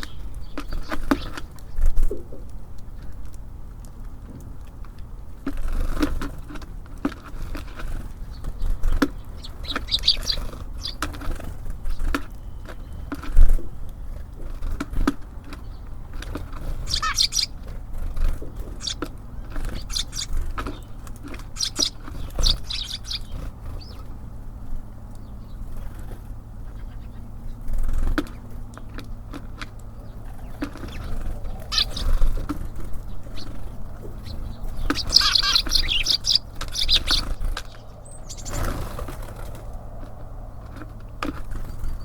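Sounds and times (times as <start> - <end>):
birds tapping on feeder: 0.0 - 42.0
songbirds chirping: 0.0 - 42.0
steady low hum: 0.0 - 42.0.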